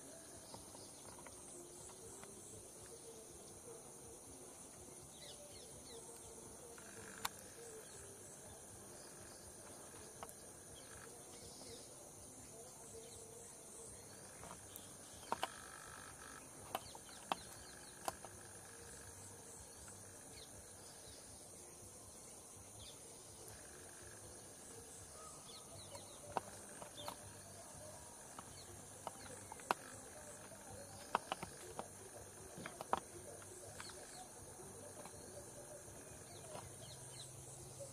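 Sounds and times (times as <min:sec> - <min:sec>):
insect chorus: 0:00.0 - 0:37.9.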